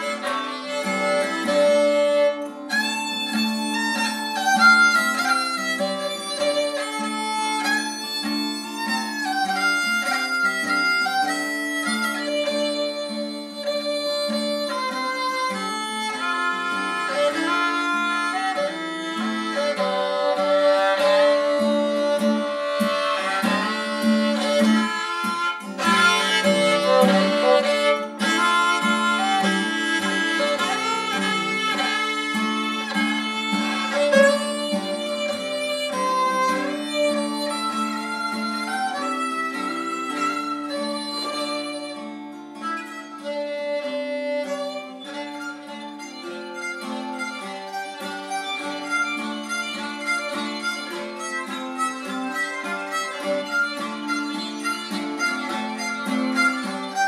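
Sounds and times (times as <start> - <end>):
acoustic guitar accompaniment: 0.0 - 57.0
violin melody: 0.0 - 57.0.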